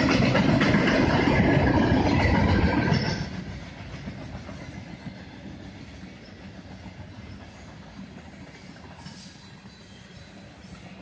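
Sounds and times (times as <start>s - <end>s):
freight train rolling on rails: 0.0s - 11.0s.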